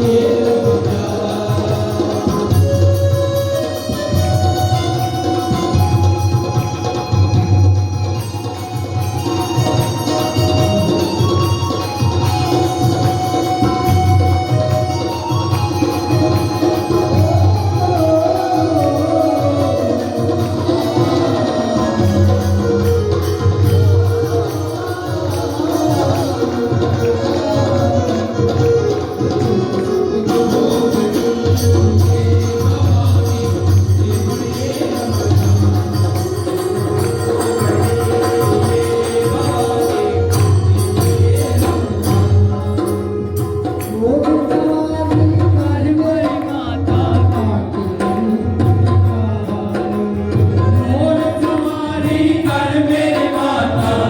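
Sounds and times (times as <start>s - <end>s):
devotional singing: 0.0s - 7.2s, 8.0s - 54.0s.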